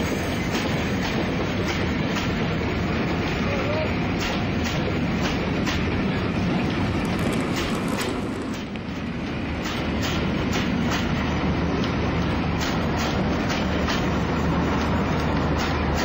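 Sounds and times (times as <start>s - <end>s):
model train rumbling on track: 0.0s - 16.0s
wheels clicking over rail joints: 0.3s - 16.0s.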